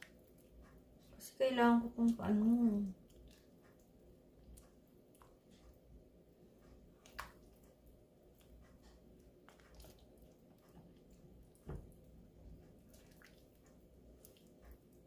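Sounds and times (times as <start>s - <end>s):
spoon stirring sticky jam: 2.0s - 15.0s.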